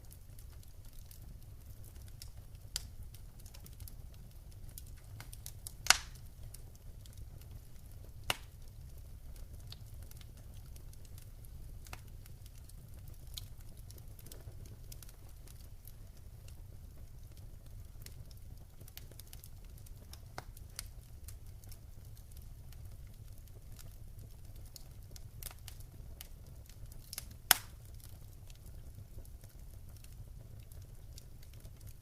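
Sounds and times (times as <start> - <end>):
low fire rumble: 0.0 - 32.0
wood fire snapping and popping: 0.0 - 32.0.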